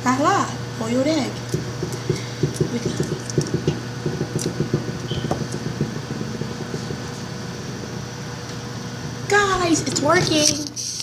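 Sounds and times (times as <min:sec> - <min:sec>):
steady low hum: 0:00.0 - 0:11.0
eggshell crackling: 0:01.3 - 0:11.0.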